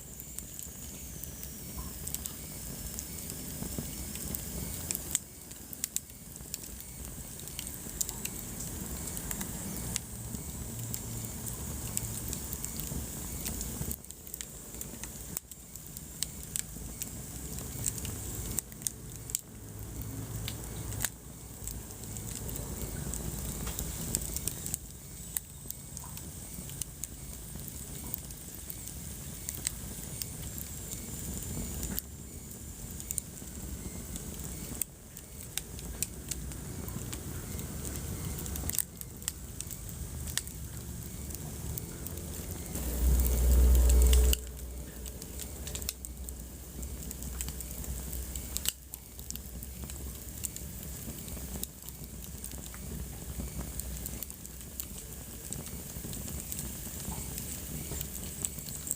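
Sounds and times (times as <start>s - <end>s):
low flame rumble: 0.0s - 58.9s
wood fire crackling: 0.0s - 58.9s.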